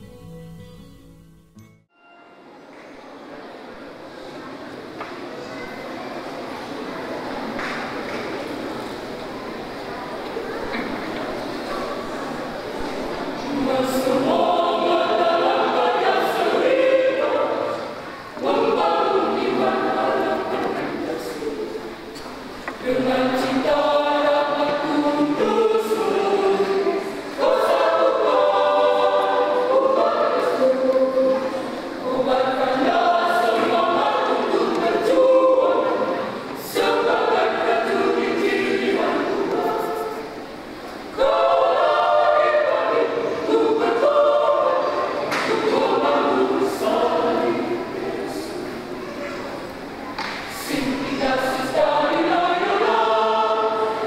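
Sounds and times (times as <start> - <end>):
choir singing held chords: 10.7 - 54.0.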